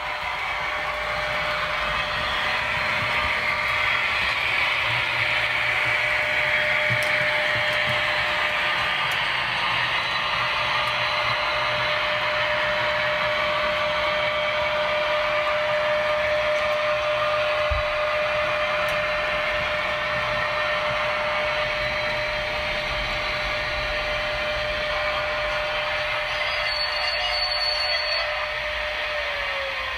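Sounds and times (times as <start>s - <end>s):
model locomotive motor whir: 0.0s - 29.9s.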